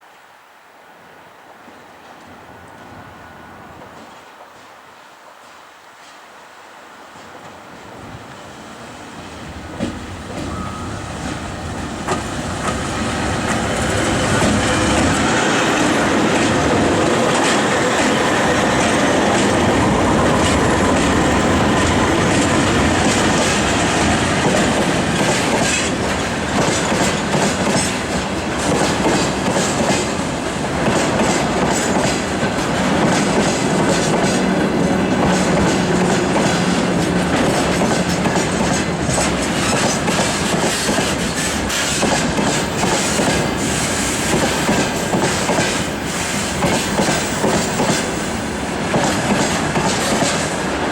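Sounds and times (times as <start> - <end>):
freight train running past: 2.1 - 4.4, 7.1 - 50.9
wheels clacking over rail joints: 7.2 - 50.9.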